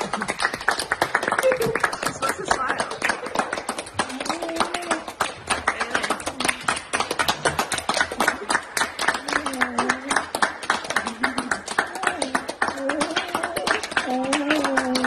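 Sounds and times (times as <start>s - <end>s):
person clapping hands: 0.0s - 15.0s.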